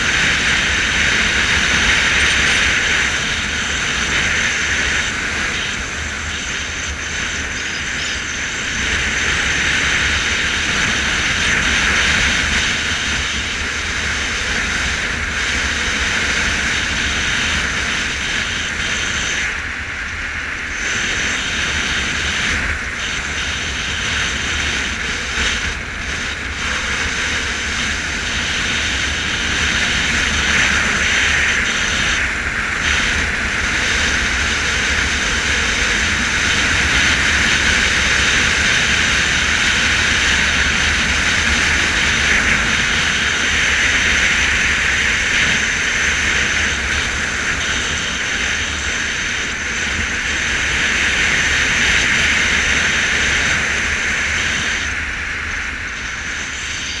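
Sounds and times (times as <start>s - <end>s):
motorcycle engine drone: 0.0s - 57.0s
road noise: 0.0s - 57.0s
wind noise: 0.0s - 57.0s.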